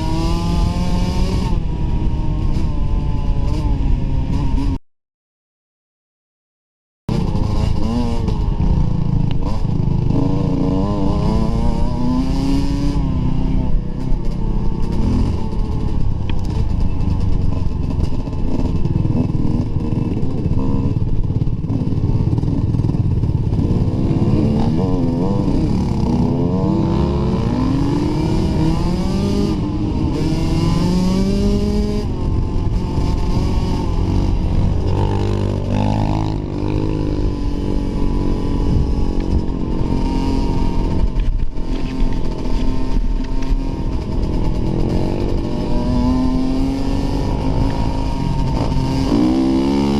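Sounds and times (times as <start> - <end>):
dirt bike engine revving: 0.0 - 4.8, 7.1 - 49.9.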